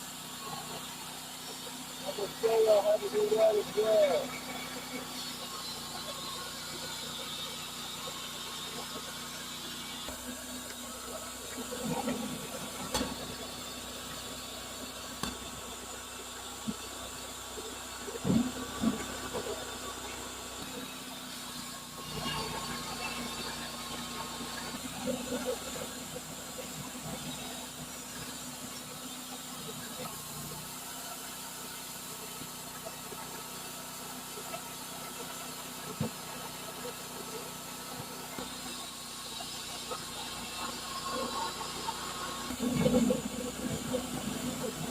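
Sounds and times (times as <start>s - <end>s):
sawmill engine droning: 0.0s - 44.9s.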